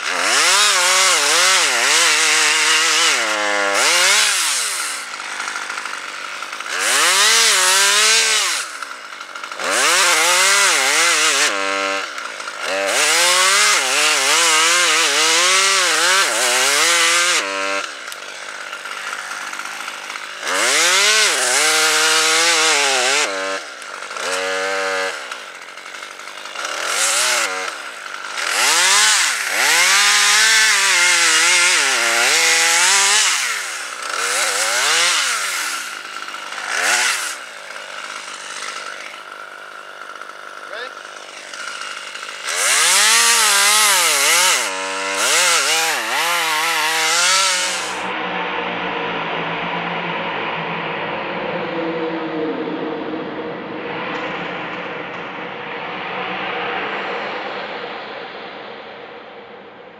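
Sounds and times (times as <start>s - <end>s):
chainsaw revving: 0.0s - 48.2s.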